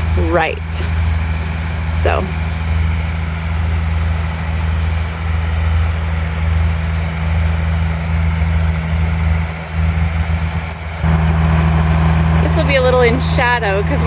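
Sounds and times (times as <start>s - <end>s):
harvester engine humming: 0.0s - 14.0s.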